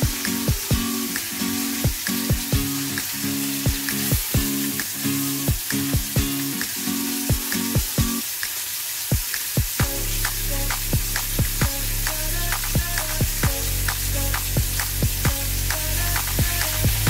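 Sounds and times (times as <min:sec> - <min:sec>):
background music with steady beat: 0:00.0 - 0:17.0
fish sizzling in hot oil: 0:00.0 - 0:17.0.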